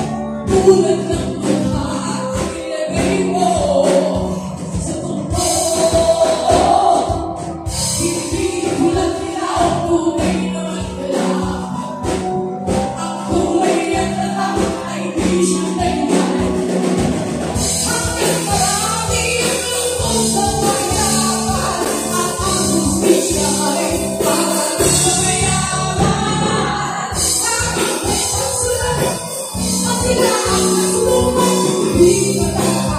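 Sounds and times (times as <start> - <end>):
woman singing: 0.0 - 12.0, 12.9 - 16.9, 17.6 - 32.9
live band playing: 0.0 - 32.9.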